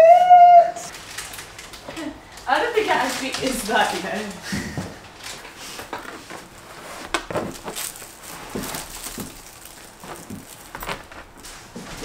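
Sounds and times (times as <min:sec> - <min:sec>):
plastic wrapping crinkling: 0:00.8 - 0:12.0.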